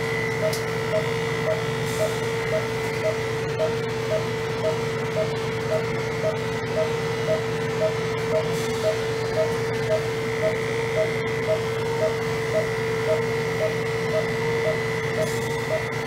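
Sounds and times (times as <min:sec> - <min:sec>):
electric hair clippers humming: 0:00.0 - 0:16.0
patient monitor beeping: 0:00.0 - 0:16.0.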